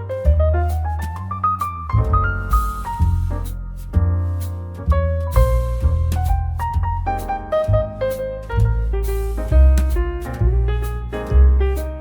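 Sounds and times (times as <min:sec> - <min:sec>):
piano notes: 0:00.0 - 0:12.0
sustained bass line: 0:00.0 - 0:12.0.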